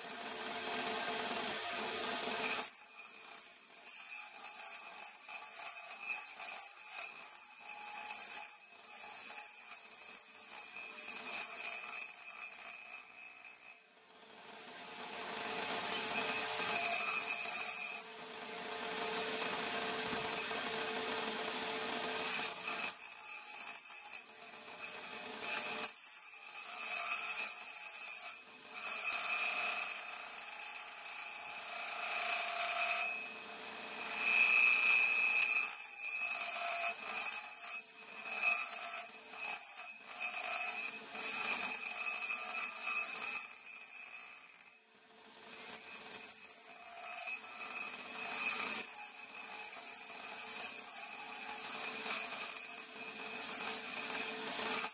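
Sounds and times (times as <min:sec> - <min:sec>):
lathe cutting metal scraping ring: 0:02.4 - 0:13.2, 0:14.9 - 0:18.2, 0:19.3 - 0:20.7, 0:22.1 - 0:44.5, 0:45.5 - 0:54.9.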